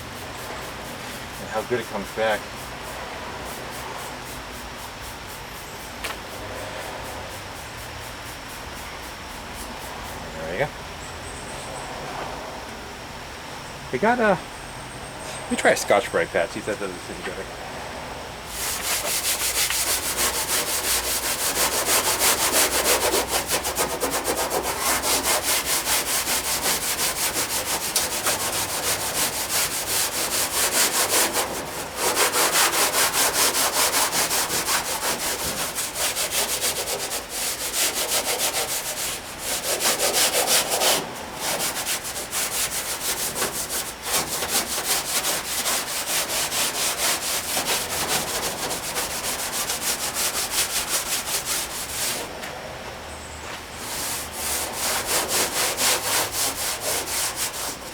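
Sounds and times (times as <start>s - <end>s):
scouring pad scrubbing metal panel: 0.0s - 10.2s, 18.5s - 52.3s, 53.8s - 57.9s.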